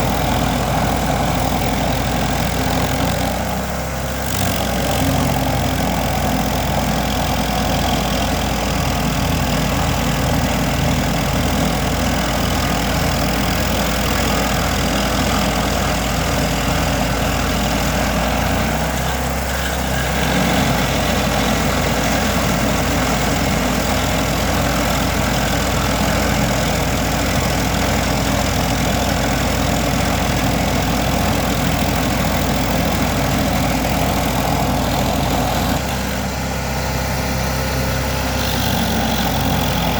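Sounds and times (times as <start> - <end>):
stump grinder engine running: 0.0 - 39.9.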